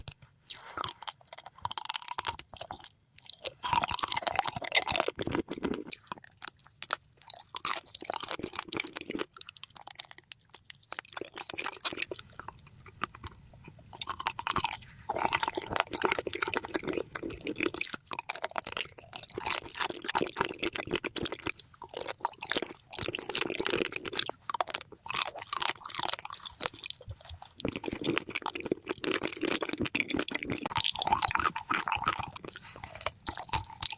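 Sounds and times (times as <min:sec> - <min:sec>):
chewing candy crunching: 0:00.0 - 0:33.9
wet mouth sounds: 0:00.0 - 0:33.9.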